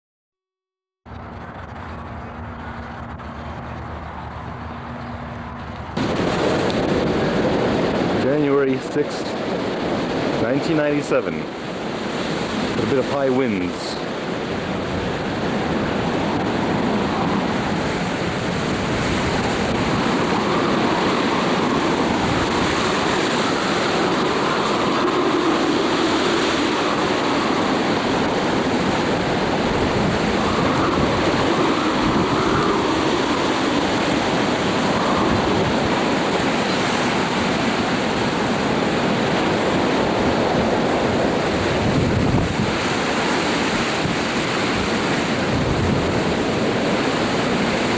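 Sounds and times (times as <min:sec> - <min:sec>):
wind noise on microphone: 0:01.1 - 0:47.9.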